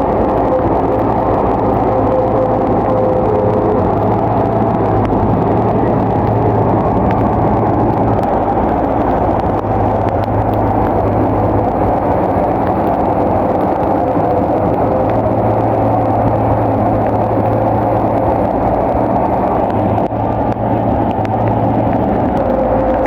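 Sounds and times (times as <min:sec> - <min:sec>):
bulldozer engine droning: 0:00.0 - 0:23.0
faint clicks: 0:00.0 - 0:23.0.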